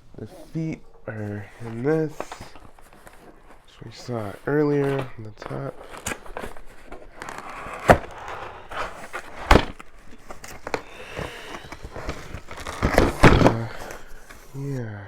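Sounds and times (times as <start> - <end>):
packaging rustling: 0.0 - 14.8.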